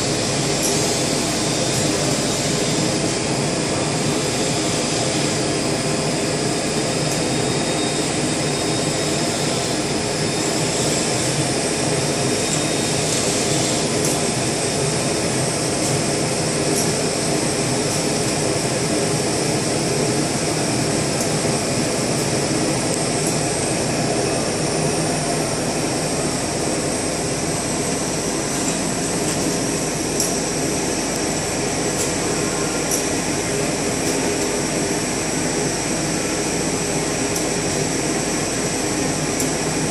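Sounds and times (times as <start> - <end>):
industrial machinery running: 0.0 - 39.9.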